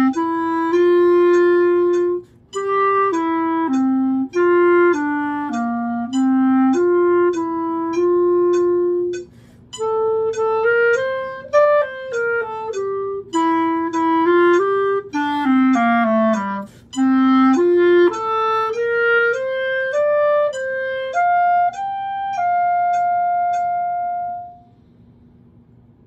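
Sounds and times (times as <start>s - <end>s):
solo clarinet melody: 0.0s - 24.9s.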